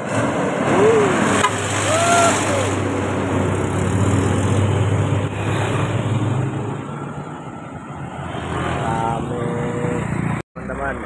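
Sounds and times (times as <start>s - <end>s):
car passing: 0.0s - 11.0s
motorcycles approaching: 0.6s - 11.0s.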